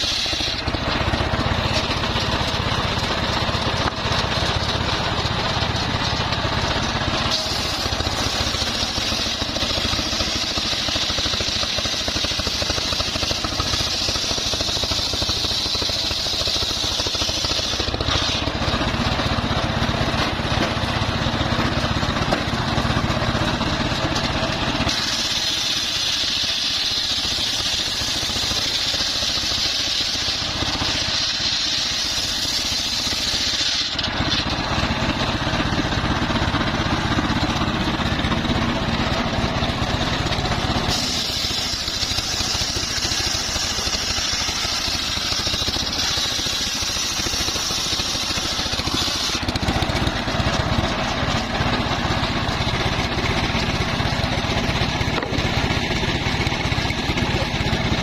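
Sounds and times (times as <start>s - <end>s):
engine drone: 0.0s - 58.0s
saw blade cutting whine: 0.0s - 58.0s.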